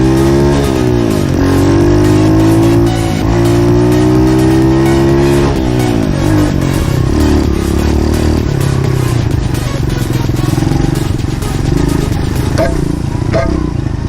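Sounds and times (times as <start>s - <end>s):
motorbike engine running choppy: 0.0s - 14.0s.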